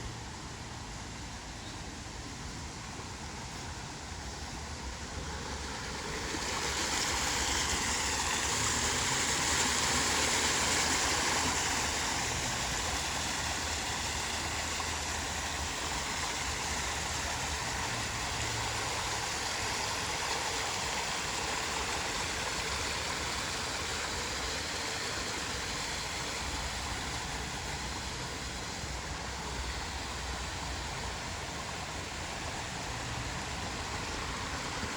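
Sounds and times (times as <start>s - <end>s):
waterfall rushing: 4.6s - 34.9s.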